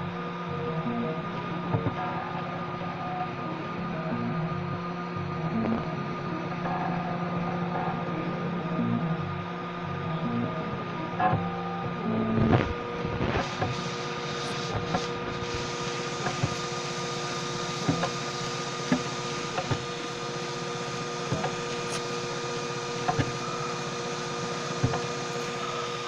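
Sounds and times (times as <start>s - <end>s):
stepper motor whine: 0.0s - 26.0s.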